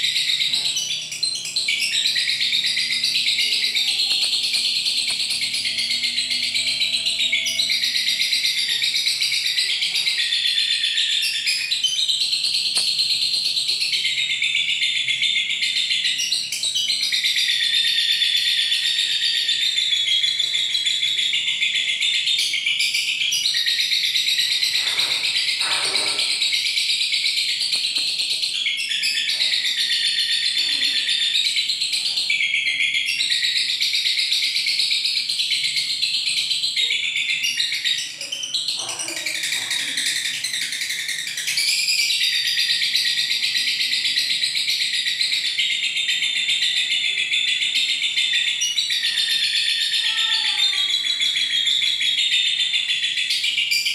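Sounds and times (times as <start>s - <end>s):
lovebird chattering song: 0.0s - 53.9s.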